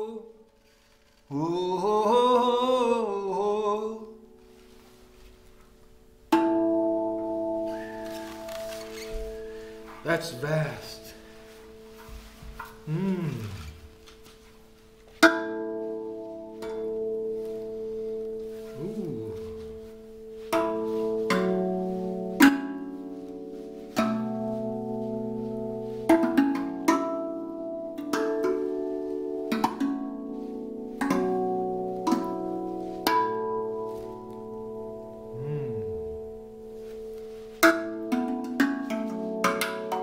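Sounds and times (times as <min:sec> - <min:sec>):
steel tongue drum notes ringing: 0:06.2 - 0:40.0.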